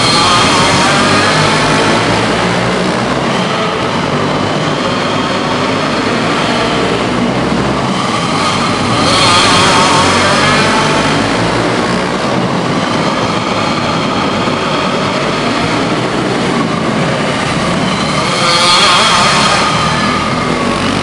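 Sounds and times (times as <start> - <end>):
go-kart engines racing: 0.0 - 21.0.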